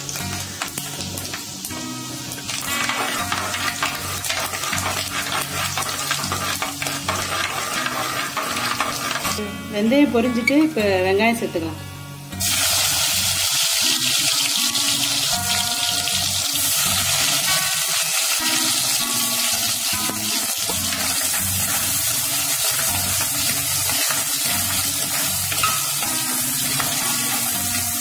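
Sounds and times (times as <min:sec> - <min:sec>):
shallots sizzling in hot oil: 0:00.0 - 0:10.7, 0:12.3 - 0:28.0.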